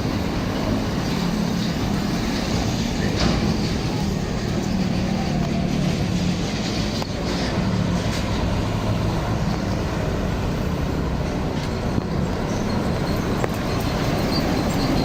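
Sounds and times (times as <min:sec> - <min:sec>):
diesel engine hum: 0:00.0 - 0:15.0
road noise: 0:00.0 - 0:15.0.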